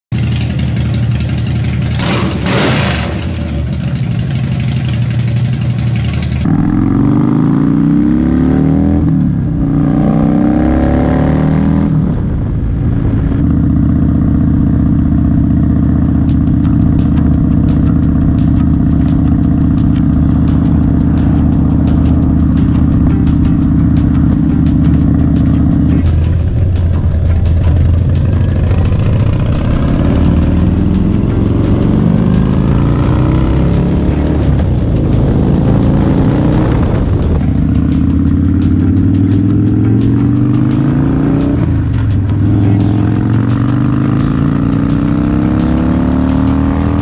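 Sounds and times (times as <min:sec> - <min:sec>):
motorcycle engine revving: 0:00.1 - 0:47.0.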